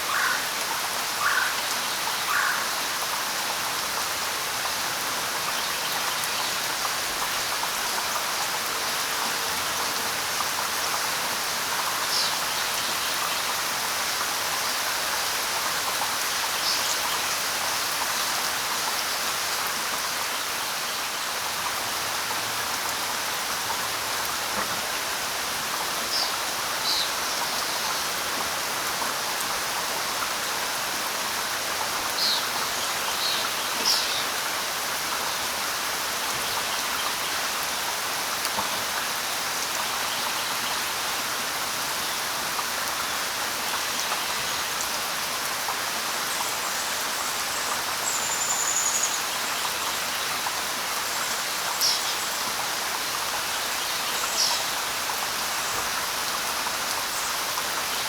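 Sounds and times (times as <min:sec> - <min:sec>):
light rain falling on leaves: 0:00.0 - 0:58.0.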